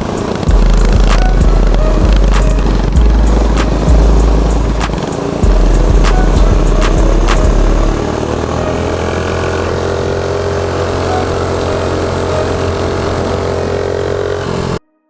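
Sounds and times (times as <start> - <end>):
small motorbike engine running: 0.0 - 14.8.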